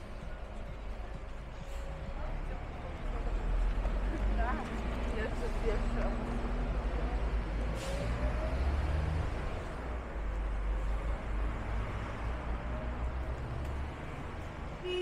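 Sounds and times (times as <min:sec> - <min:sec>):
motor vehicle running: 0:00.0 - 0:14.8.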